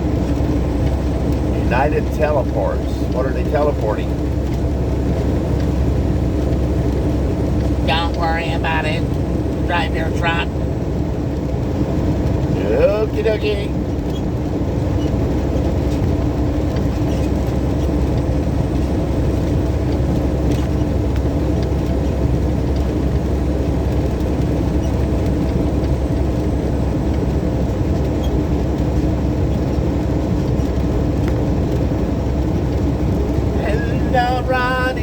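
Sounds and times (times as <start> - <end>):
road noise: 0.0 - 35.0
steady low hum: 0.0 - 35.0
truck engine drone: 0.0 - 35.0.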